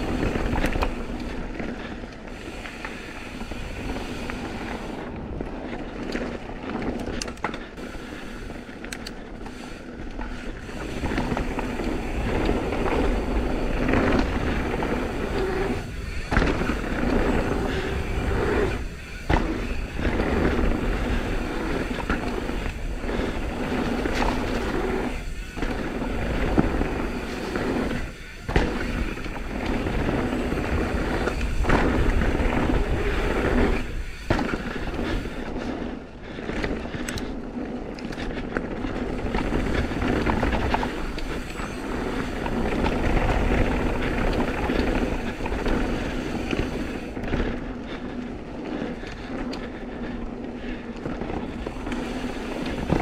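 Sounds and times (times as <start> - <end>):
wind rumble on microphone: 0.0 - 9.4, 10.5 - 53.0
bike chain and frame rattling: 0.0 - 53.0
bike tyres crunching over dirt: 0.0 - 53.0.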